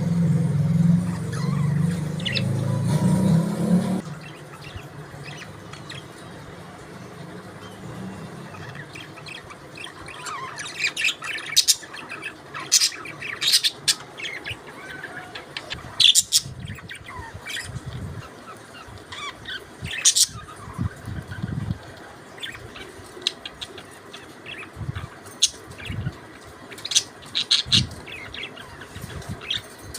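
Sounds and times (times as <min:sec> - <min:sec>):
parakeets chirping: 0:00.0 - 0:03.2, 0:03.8 - 0:29.9.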